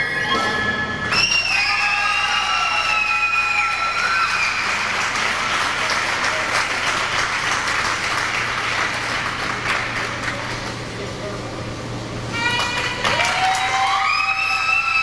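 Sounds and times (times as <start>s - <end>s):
loud individual claps: 1.1s - 10.9s, 12.4s - 15.0s
audience applauding: 1.1s - 11.1s, 12.4s - 15.0s.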